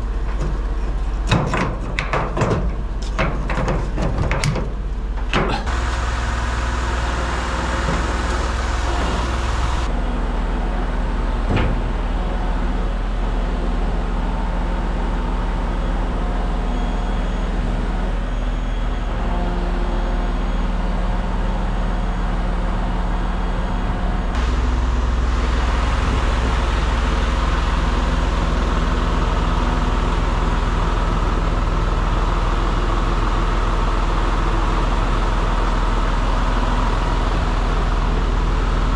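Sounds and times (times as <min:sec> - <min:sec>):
truck engine running: 0:04.7 - 0:38.9.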